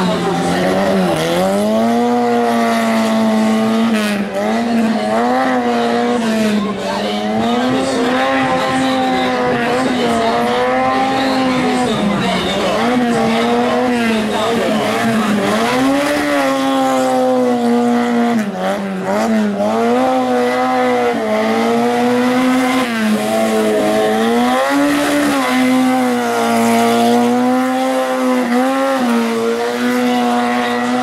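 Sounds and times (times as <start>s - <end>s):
small car engine revving hard: 0.0s - 31.0s.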